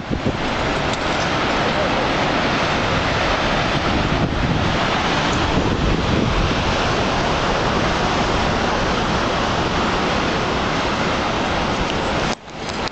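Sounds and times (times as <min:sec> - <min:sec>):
surf breaking against rocks: 0:00.0 - 0:12.9
wind buffeting microphone: 0:00.0 - 0:12.9.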